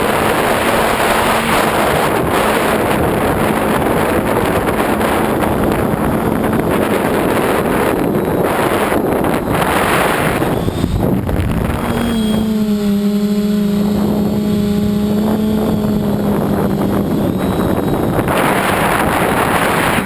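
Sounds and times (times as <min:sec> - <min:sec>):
drone propellers humming: 0:00.0 - 0:20.0
wind buffeting microphone: 0:00.0 - 0:20.0.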